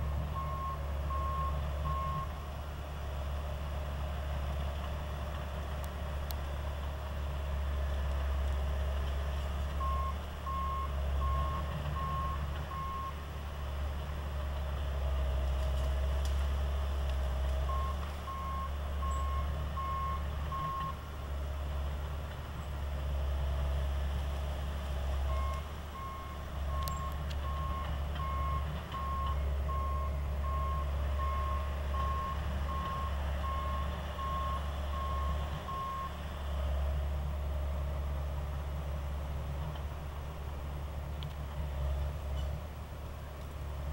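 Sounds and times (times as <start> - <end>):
bulldozer diesel engine rumble: 0.0 - 43.9.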